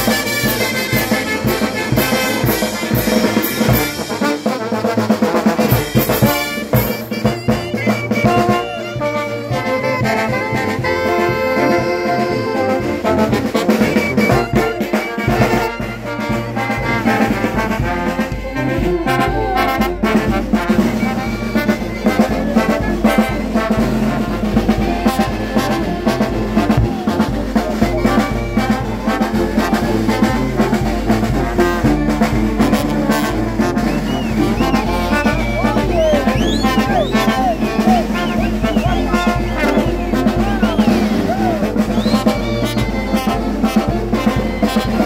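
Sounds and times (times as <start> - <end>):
brass band playing: 0.0 - 45.0
trumpets and trombones: 0.0 - 45.0
bass beat: 5.6 - 45.0.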